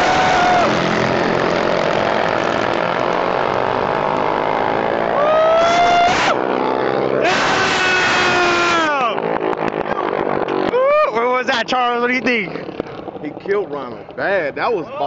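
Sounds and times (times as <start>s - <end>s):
minibike engines at full throttle: 0.0s - 15.0s.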